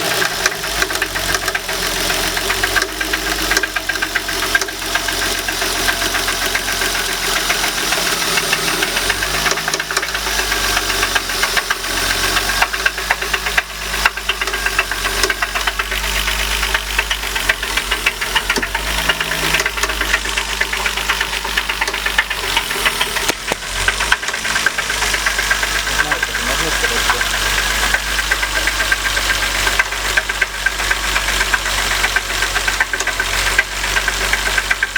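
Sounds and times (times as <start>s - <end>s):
car engine running: 0.0s - 34.9s
engine knocking: 0.0s - 34.9s.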